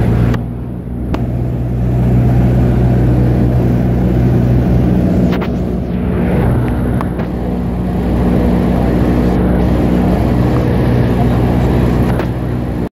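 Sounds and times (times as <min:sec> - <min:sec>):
airflow rushing: 0:00.0 - 0:12.9
airplane engine and propeller droning: 0:00.0 - 0:12.9.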